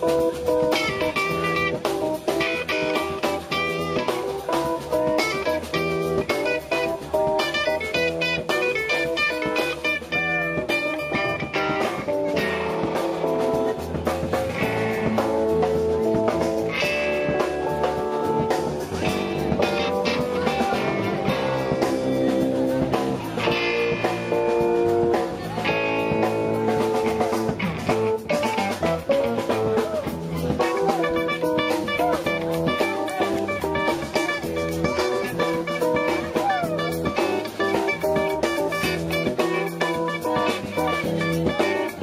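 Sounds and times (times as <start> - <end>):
bass guitar: 0.0 - 42.0
drum kit beat: 0.0 - 42.0
electric guitar: 0.0 - 42.0.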